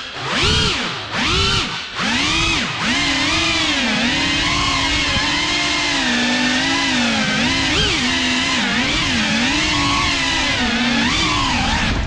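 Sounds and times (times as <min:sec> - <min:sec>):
drone motors whining: 0:00.0 - 0:12.0.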